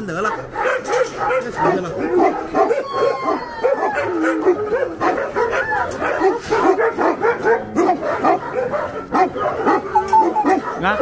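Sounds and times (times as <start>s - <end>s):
dogs barking and whining: 0.0s - 11.0s.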